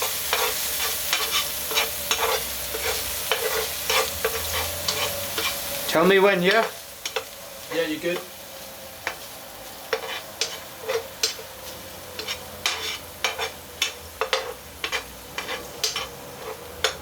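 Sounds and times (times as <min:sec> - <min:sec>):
spoon scraping a frying pan: 0:00.0 - 0:07.3, 0:09.0 - 0:17.0
faint sizzling: 0:00.0 - 0:17.0.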